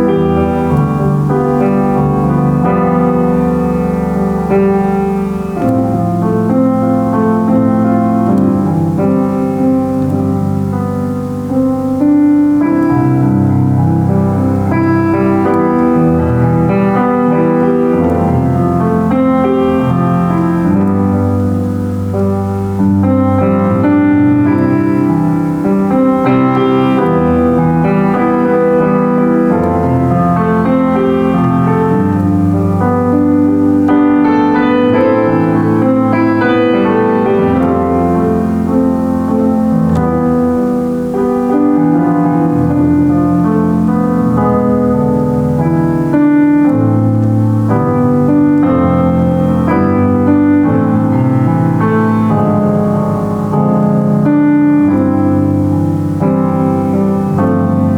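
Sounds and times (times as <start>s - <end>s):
solo piano: 0.0s - 57.9s.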